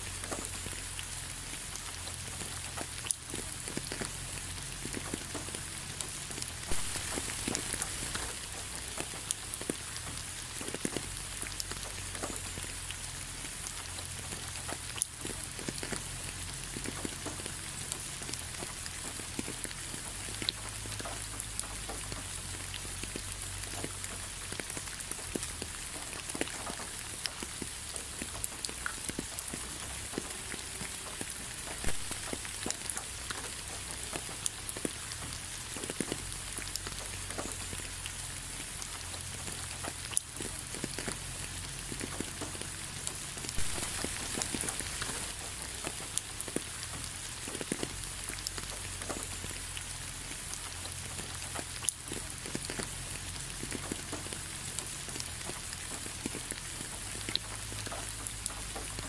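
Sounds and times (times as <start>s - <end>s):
rain drop ticks: 0.0s - 59.0s
steady rain falling: 0.0s - 59.0s.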